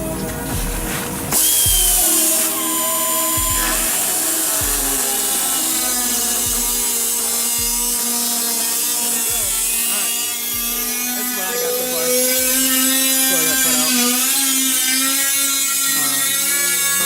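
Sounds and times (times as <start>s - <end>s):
power tool cutting sheet steel: 0.0s - 17.0s.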